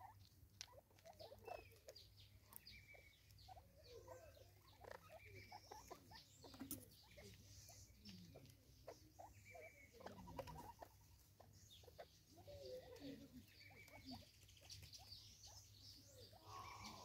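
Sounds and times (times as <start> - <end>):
birds pecking at seed feeder: 0.0 - 17.0
distant birds chirping: 0.0 - 17.0.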